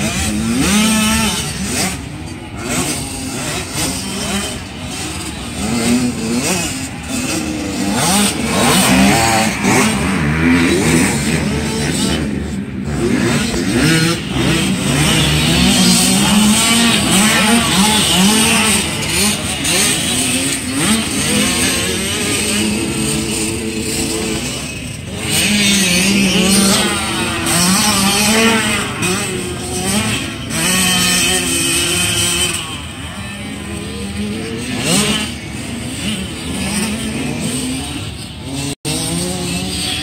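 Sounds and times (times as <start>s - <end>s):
dirt bikes revving: 0.0s - 40.0s.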